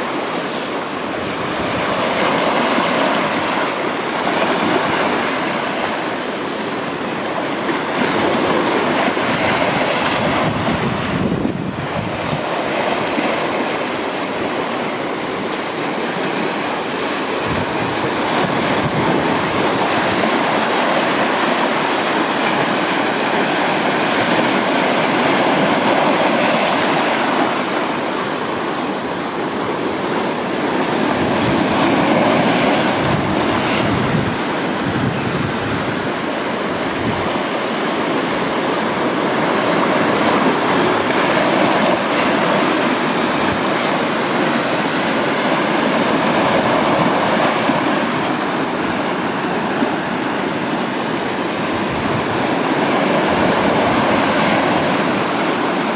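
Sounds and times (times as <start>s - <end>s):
waves breaking on boulders: 0.0s - 55.9s.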